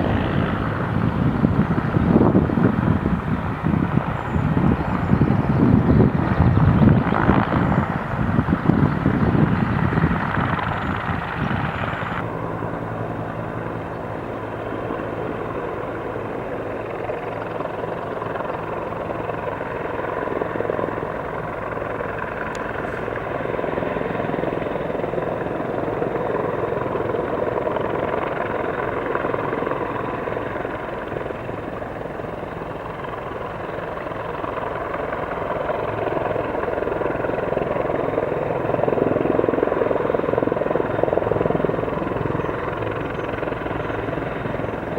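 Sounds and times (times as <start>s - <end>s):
helicopter rotor thrum: 0.0s - 44.9s.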